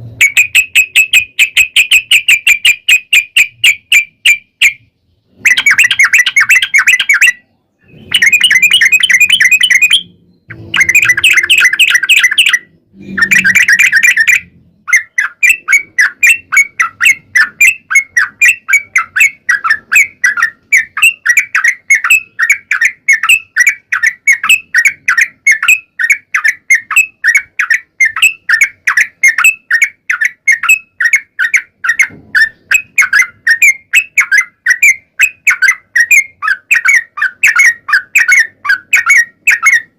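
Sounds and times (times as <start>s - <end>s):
bird quick repeated notes: 0.0s - 39.9s
bird bubbling chatter: 5.4s - 39.9s.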